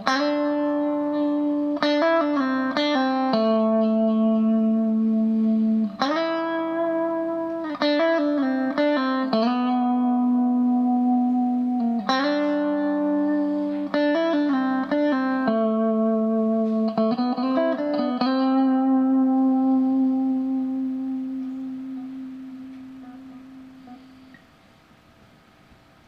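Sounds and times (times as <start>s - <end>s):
electric guitar picked notes: 0.0s - 25.7s.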